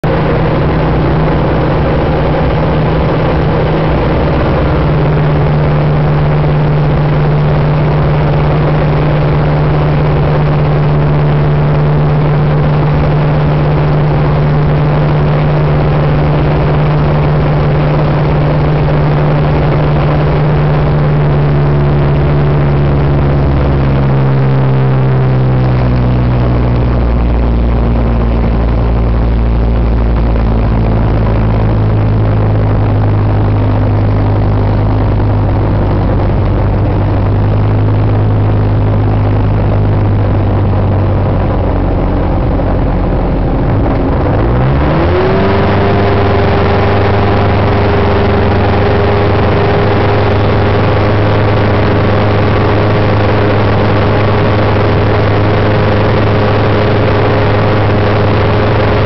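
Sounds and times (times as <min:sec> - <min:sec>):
aircraft engine drone: 0:00.0 - 0:59.0.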